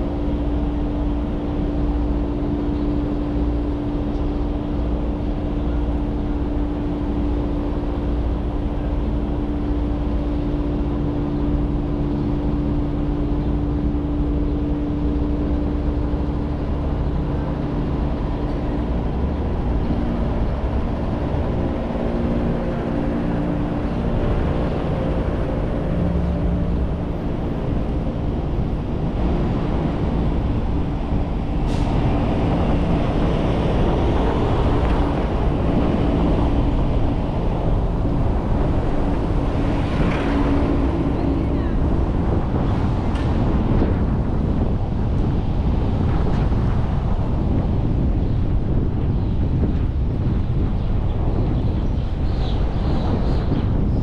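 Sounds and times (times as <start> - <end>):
broad rushing noise: 0.0 - 54.0
constant hum: 0.0 - 54.0
road and engine rumble: 0.0 - 54.0.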